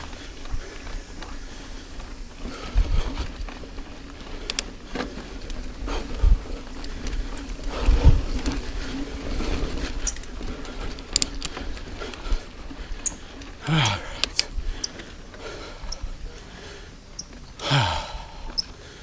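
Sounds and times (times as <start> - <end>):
bike rattling and clicking: 0.0 - 19.0
bike tyre noise on dirt: 0.0 - 19.0.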